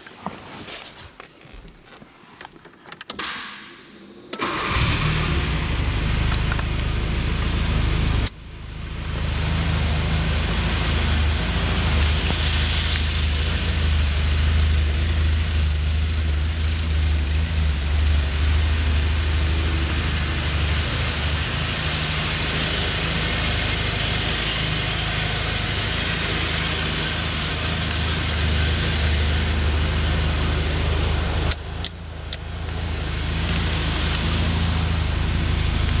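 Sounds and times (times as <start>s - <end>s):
car engine idling: 4.4s - 36.0s.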